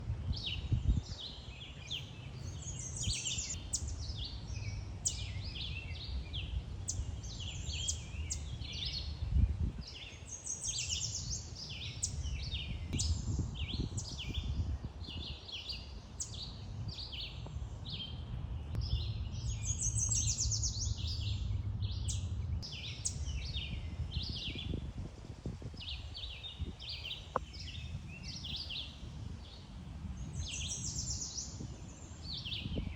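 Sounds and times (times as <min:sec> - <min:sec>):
continuous low rumble: 0:00.0 - 0:10.0, 0:15.9 - 0:32.9
birds chirping and singing: 0:00.3 - 0:24.8, 0:25.7 - 0:32.9.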